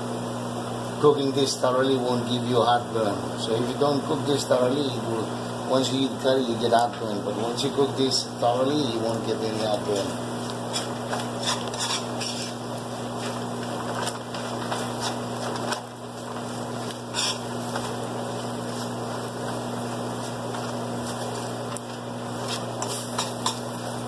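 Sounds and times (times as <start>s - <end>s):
food sizzling in oil: 2.2s - 24.0s.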